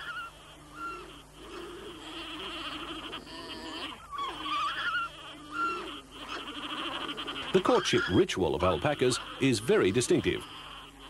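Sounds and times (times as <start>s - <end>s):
alpacas humming: 0.0s - 11.0s.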